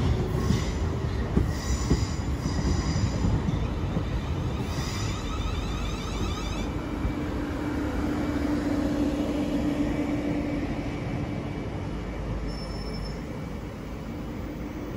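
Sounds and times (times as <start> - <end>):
steady train hum: 0.0 - 14.9
train wheels rumbling on rail: 0.0 - 14.9.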